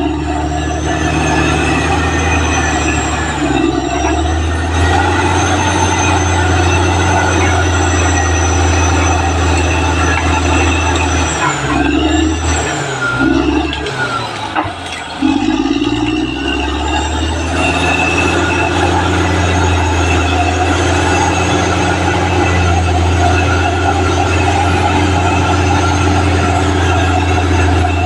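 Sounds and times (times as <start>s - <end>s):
bulldozer diesel engine running: 0.0s - 28.0s
steel crawler tracks squealing: 0.0s - 28.0s.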